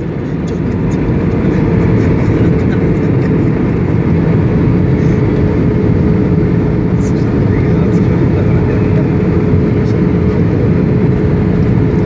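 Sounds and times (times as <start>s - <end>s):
aircraft rumbling on runway: 0.0s - 12.0s
thin steady whine: 0.0s - 12.0s.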